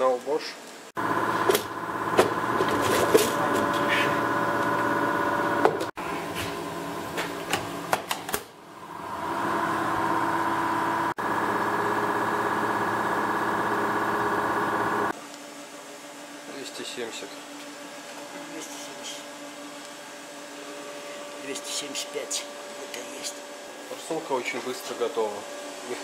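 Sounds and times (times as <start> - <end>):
workshop machine hum: 0.0 - 26.0.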